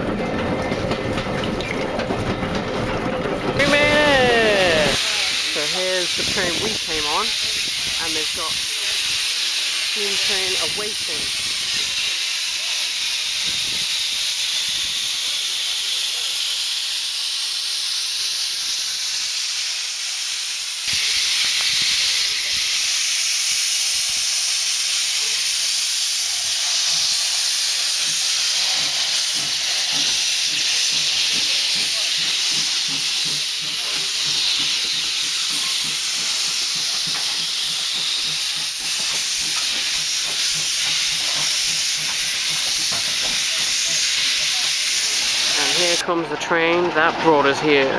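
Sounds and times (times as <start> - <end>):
steam locomotive hissing steam: 3.5 - 47.9.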